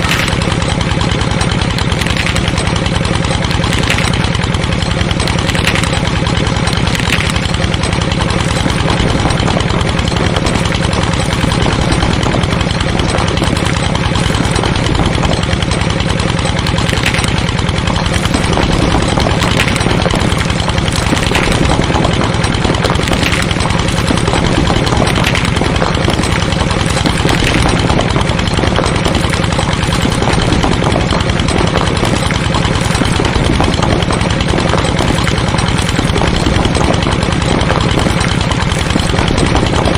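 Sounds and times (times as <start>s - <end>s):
small engine idling: 0.0s - 39.9s.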